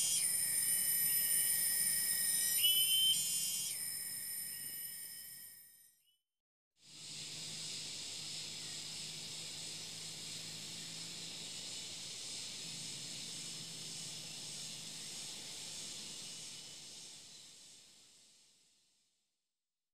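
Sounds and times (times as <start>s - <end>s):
steady high-pitched hiss: 0.0s - 5.5s, 6.8s - 19.2s.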